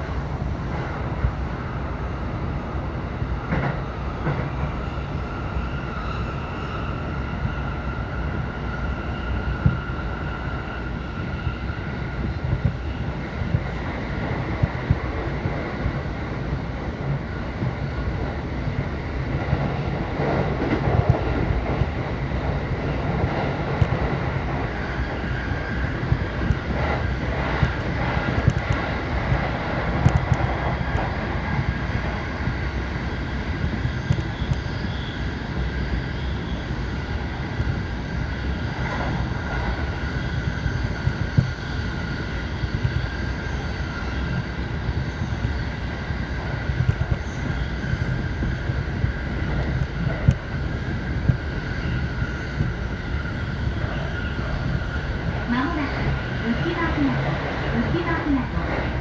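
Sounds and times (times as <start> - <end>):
electric train rumbling inside car: 0.0 - 59.0.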